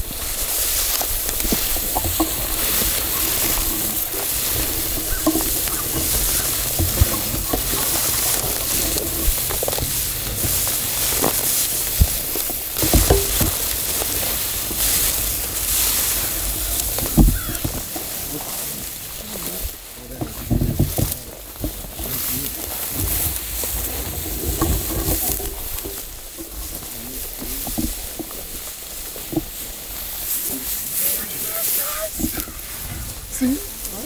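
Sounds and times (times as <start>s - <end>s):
dry grass rustling against legs: 0.0s - 34.0s
footsteps: 0.0s - 34.0s.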